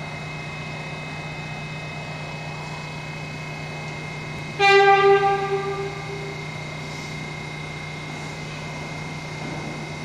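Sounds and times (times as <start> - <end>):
constant low hum: 0.0 - 10.0
faint high whine: 0.0 - 10.0
subway train approaching: 0.0 - 10.0.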